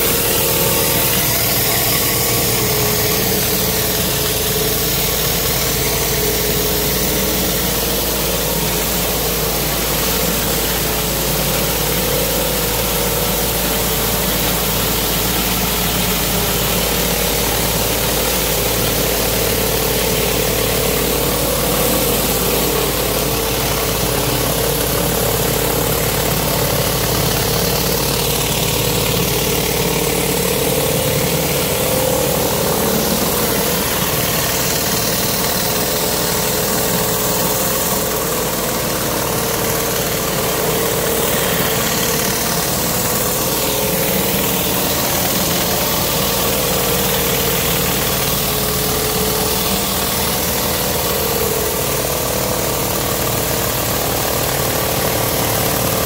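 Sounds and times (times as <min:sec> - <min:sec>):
pressure washer engine running: 0:00.0 - 0:56.0.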